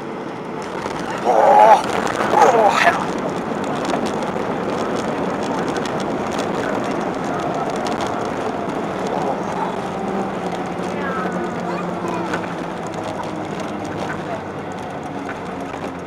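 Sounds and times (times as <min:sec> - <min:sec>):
aircraft engine hum: 0:00.0 - 0:16.0
rushing airflow: 0:00.0 - 0:16.0.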